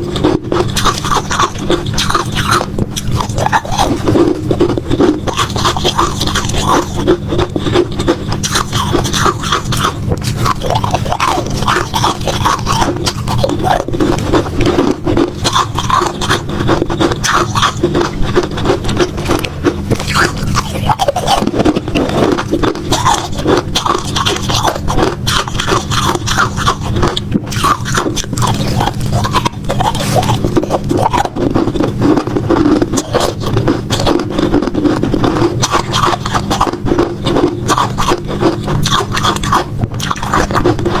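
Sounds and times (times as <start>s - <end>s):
ice being chewed: 0.0s - 41.0s.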